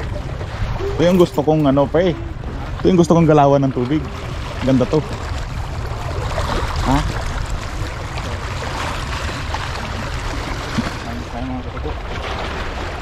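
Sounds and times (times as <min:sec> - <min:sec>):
water lapping: 0:00.0 - 0:13.0
wind rumble on microphone: 0:00.0 - 0:13.0.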